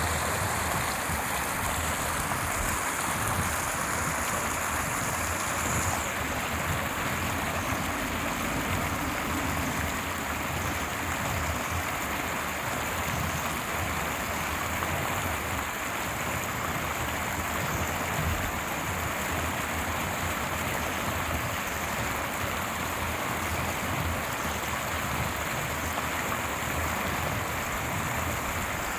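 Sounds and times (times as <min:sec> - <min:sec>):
stream water running over rocks: 0:00.0 - 0:28.9.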